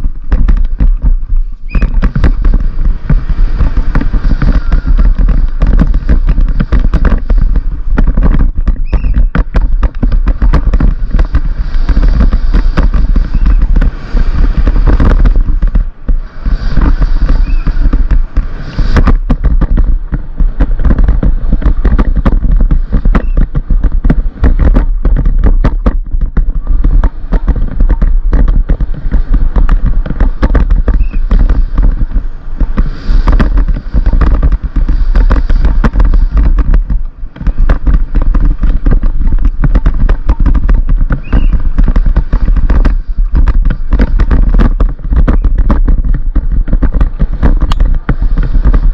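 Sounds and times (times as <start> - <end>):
bike clattering and rattling: 0.0 - 48.9
deep rumble: 0.0 - 48.9.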